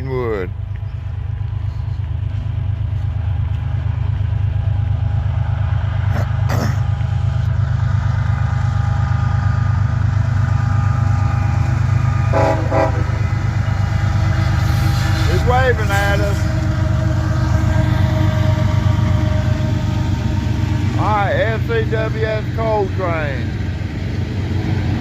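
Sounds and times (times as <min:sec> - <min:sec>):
diesel locomotive engines rumbling: 0:00.0 - 0:25.0.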